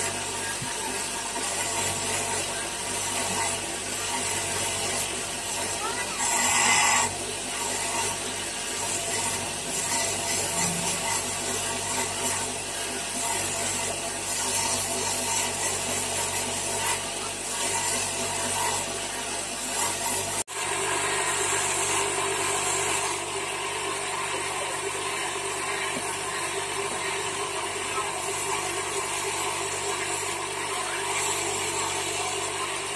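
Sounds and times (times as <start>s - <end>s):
grinding wheel grinding stone: 0.0s - 32.9s.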